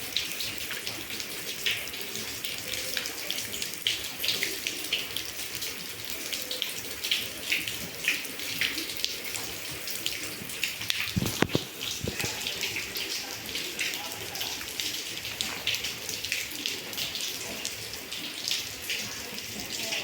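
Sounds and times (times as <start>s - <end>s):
drops and runoff splashing: 0.0s - 20.0s
rain falling: 0.0s - 20.0s.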